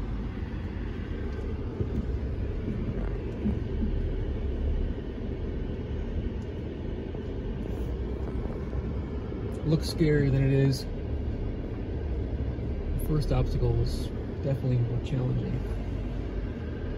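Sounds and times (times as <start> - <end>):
truck engine rumbling at low speed: 0.0 - 16.9.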